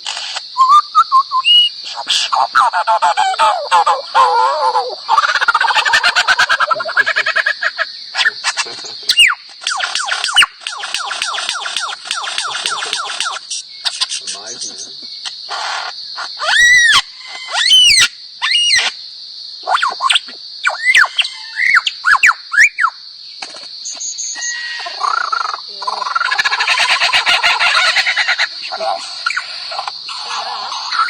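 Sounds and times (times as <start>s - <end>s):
lyrebird singing: 0.6s - 19.0s, 19.6s - 31.0s.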